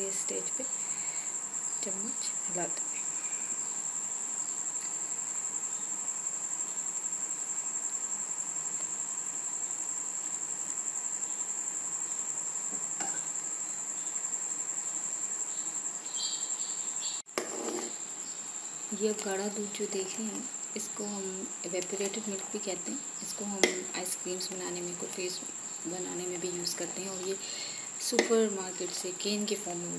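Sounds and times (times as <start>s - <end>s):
crickets trilling: 0.0s - 29.9s.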